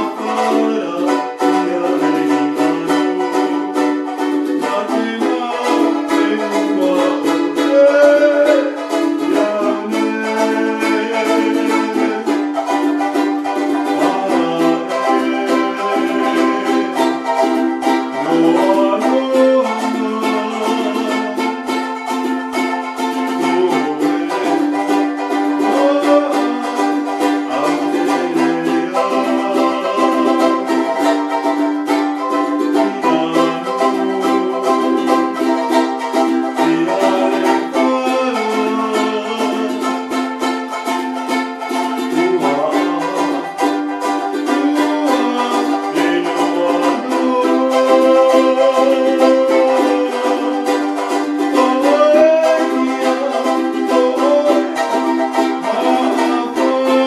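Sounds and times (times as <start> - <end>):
ukulele melody: 0.0 - 57.0
ukulele strumming: 0.0 - 57.0.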